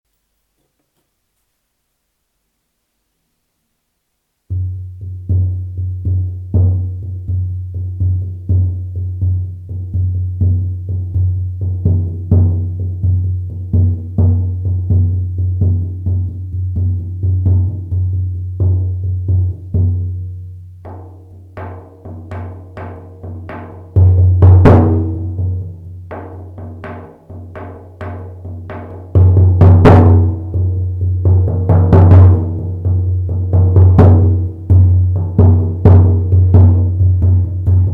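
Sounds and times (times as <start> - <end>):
frame drum booming: 4.5 - 37.9.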